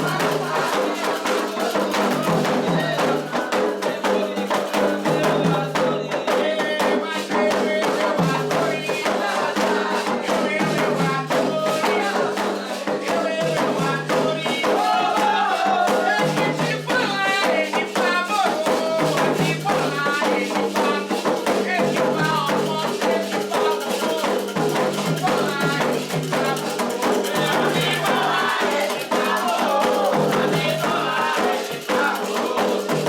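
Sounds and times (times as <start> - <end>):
hand drums and percussion: 0.0 - 33.0
voices singing: 0.0 - 33.0.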